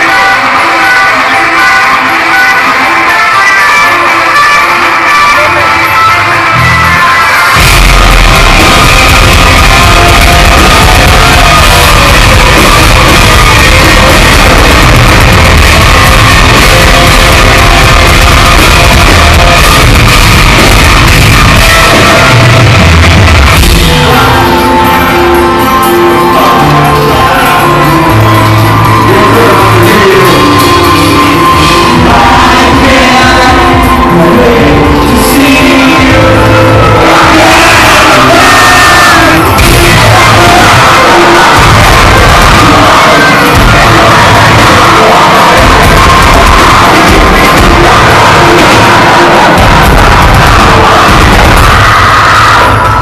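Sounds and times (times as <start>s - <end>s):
metal band playing: 0.0s - 53.0s
screamed vocals: 0.0s - 53.0s.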